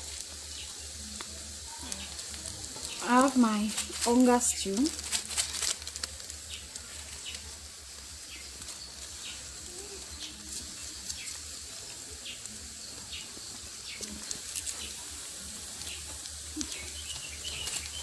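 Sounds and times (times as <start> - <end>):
rice sizzling in a pot: 0.0 - 18.0.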